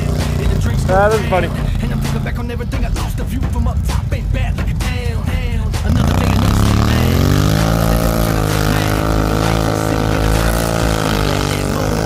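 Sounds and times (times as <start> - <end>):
quad engine revving: 0.0 - 12.0.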